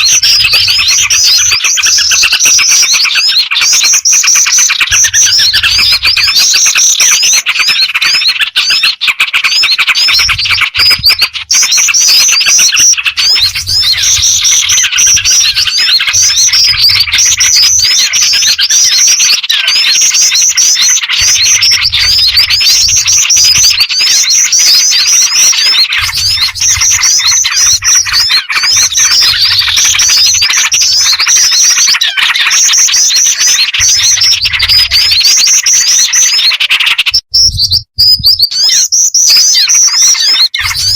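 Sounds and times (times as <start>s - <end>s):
chorus of bird chirps: 0.0s - 40.9s.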